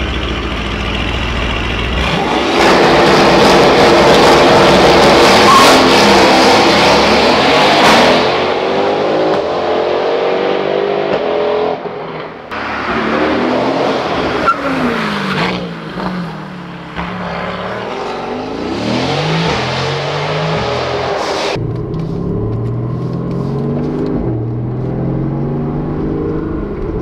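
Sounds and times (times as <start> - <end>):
car engine revving loudly: 1.9 - 11.8, 12.5 - 27.0.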